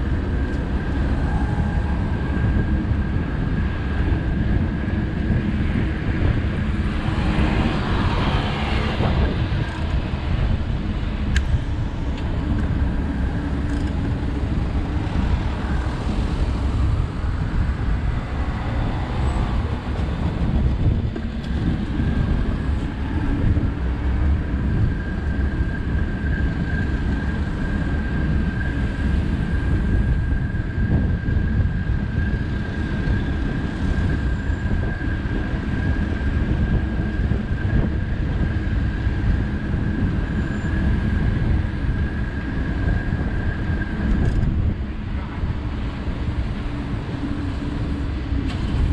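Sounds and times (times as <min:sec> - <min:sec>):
passing cars rumble: 0:00.0 - 0:48.9.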